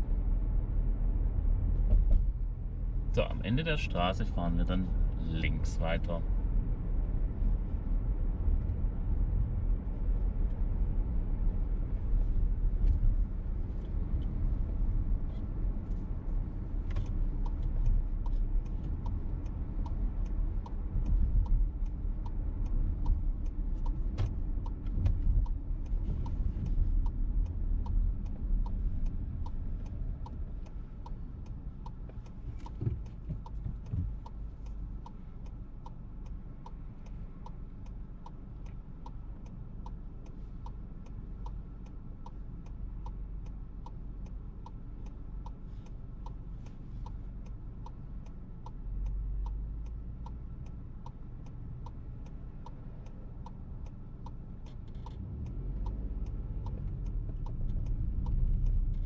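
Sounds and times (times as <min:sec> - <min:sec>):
road and engine rumble: 0:00.0 - 0:59.0
turn signal ticking: 0:00.1 - 0:59.0.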